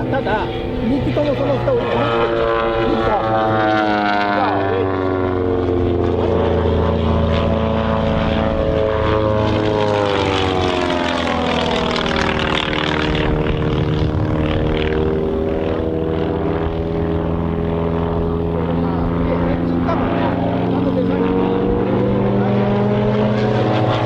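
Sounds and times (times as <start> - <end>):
propeller planes droning past: 0.0 - 24.0.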